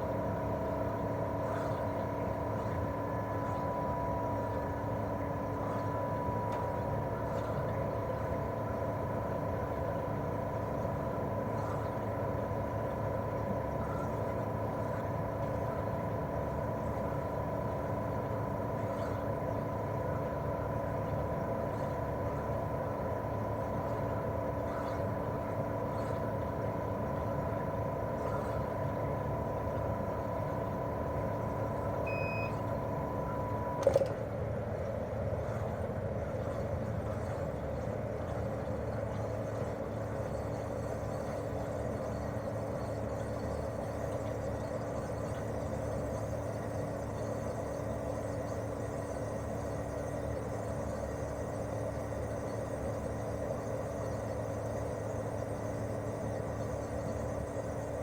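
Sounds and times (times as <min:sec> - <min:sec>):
air conditioner unit humming: 0:00.0 - 0:58.0.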